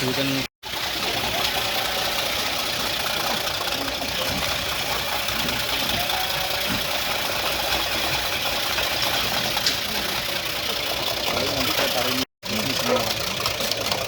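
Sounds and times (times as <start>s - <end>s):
shredding machine running: 0.0s - 14.0s.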